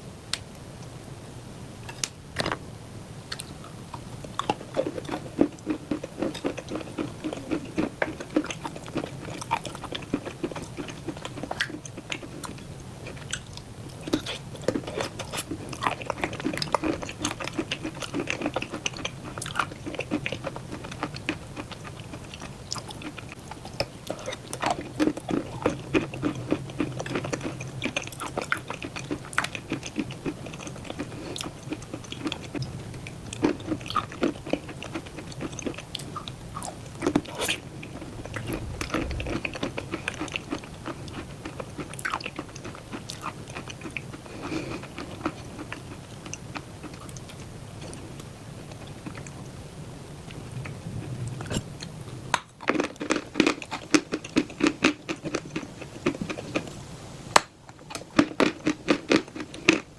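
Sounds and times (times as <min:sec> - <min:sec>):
chewing and crunching chalk: 0:03.3 - 0:49.4, 0:52.3 - 0:56.7, 0:57.8 - 0:59.9.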